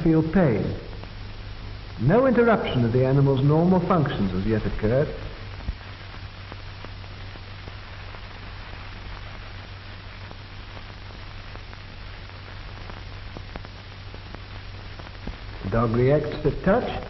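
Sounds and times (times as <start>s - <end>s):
film soundtrack hiss: 0.0s - 17.0s
faint clicks and crackles: 0.9s - 2.0s, 4.4s - 17.0s.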